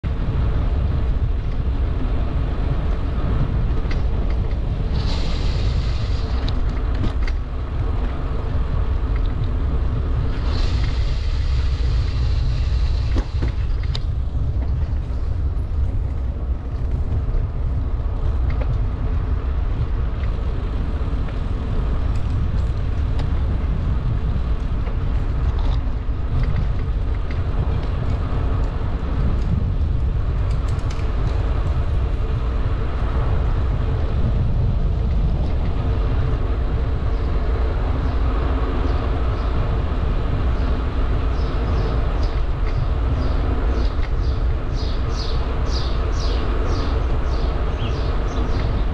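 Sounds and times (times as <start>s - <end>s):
road noise: 0.0s - 48.9s
wind rushing over microphone: 0.0s - 48.9s.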